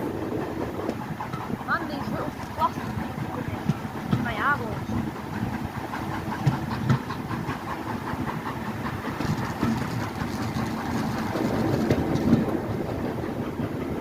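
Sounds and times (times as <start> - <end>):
railway carriage rumbling: 0.0 - 14.0
wheels clicking over rails: 0.0 - 14.0.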